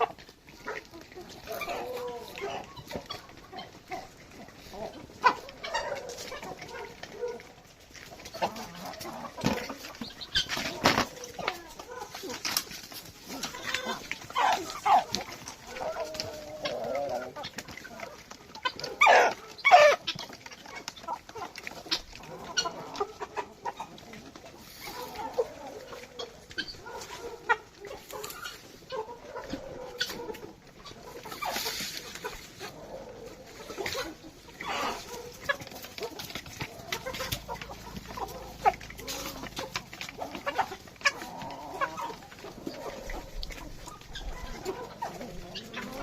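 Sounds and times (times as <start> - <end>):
chickens clucking: 0.0 - 46.0
chickens squawking: 0.0 - 46.0.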